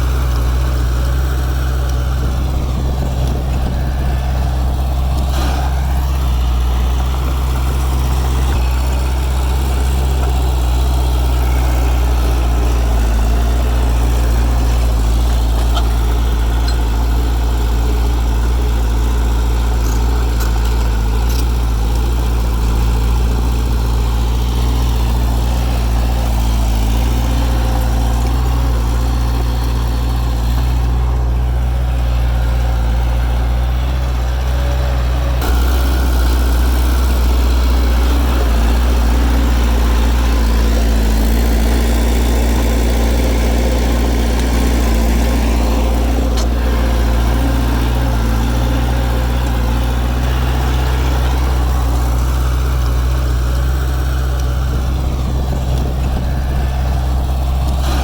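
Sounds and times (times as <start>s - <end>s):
diesel engine running steadily: 0.0s - 58.0s.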